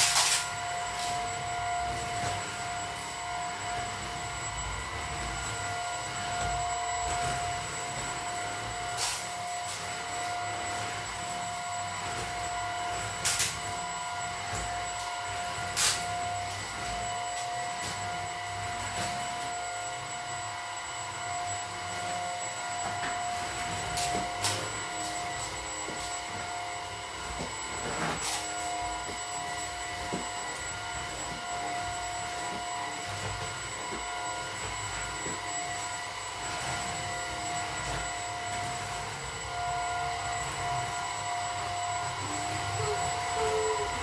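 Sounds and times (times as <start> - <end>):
stick vacuum motor whine: 0.0 - 44.0.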